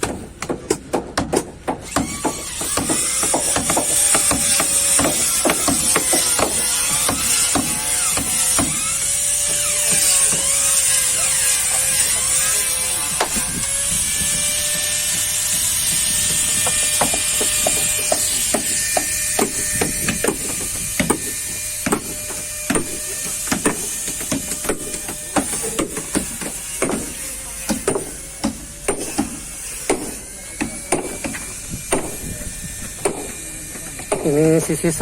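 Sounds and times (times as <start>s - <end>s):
hammering on wood: 0.0s - 12.4s, 13.1s - 13.6s, 14.3s - 34.4s.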